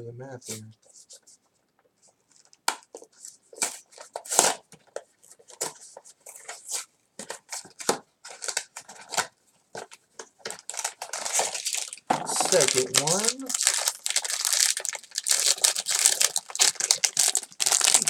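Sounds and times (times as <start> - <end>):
packaging rustling and crinkling: 2.3 - 18.0.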